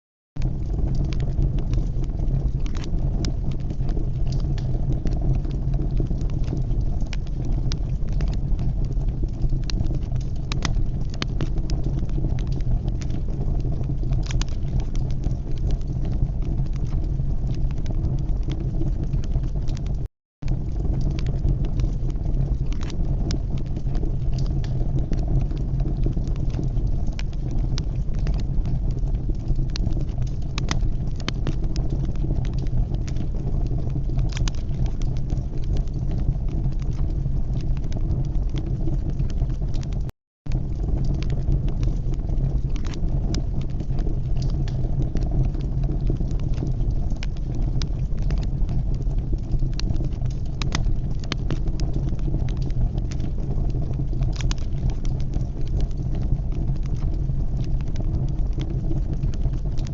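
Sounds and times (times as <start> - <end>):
fire crackling and popping: 0.4 - 59.9
fire flames rumbling: 0.4 - 59.9.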